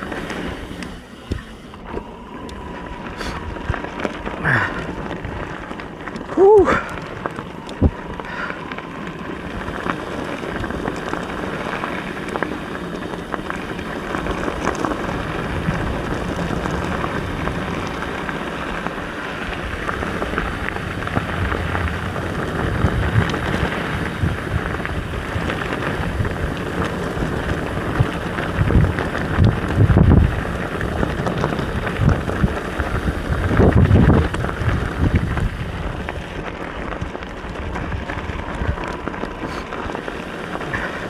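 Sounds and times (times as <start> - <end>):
bike clattering and rattling: 0.0 - 41.0
tyres rushing over dirt and gravel: 0.0 - 41.0.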